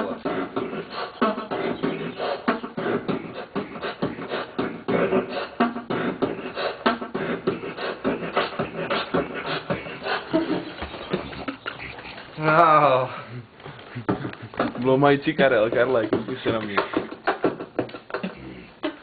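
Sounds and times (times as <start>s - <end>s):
man beatboxing: 0.0s - 11.8s, 14.0s - 19.0s.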